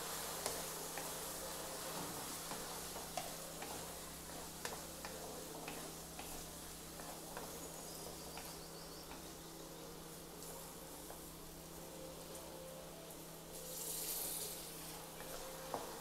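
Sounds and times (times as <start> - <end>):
faint sizzle: 0.0 - 16.0.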